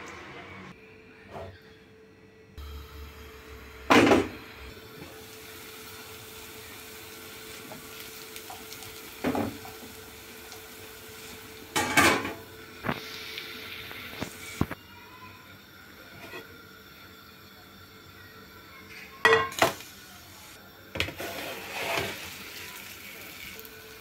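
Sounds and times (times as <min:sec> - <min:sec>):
batter sizzling in a frying pan: 0:02.6 - 0:24.0.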